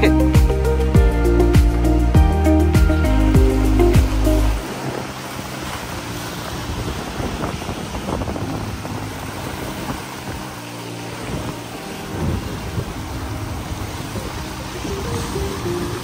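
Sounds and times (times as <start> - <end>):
surf breaking over rocks: 0.0 - 16.0
wind on microphone: 0.0 - 16.0.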